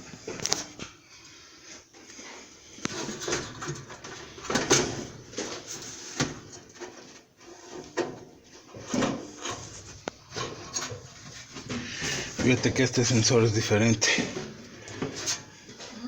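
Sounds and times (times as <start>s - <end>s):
hands handling dryer parts: 1.7s - 15.9s.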